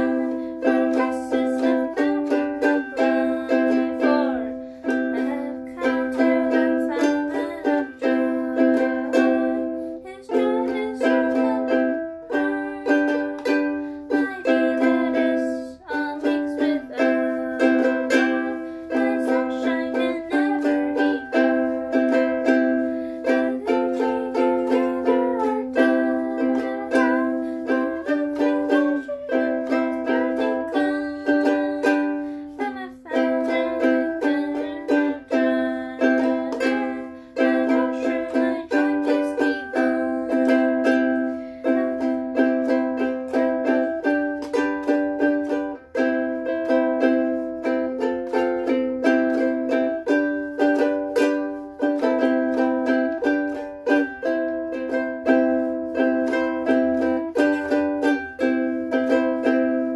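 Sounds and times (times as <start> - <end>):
ukulele strumming chords: 0.0 - 59.9.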